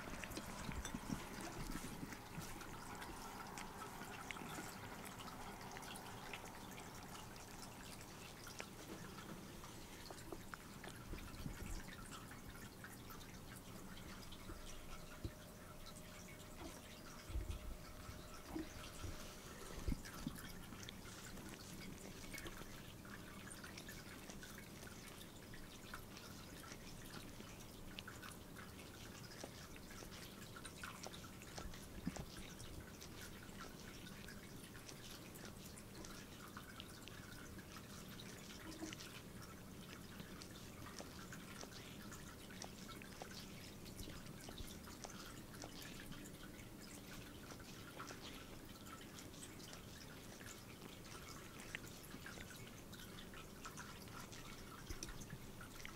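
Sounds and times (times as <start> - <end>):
cat licking fur: 0.0 - 55.9.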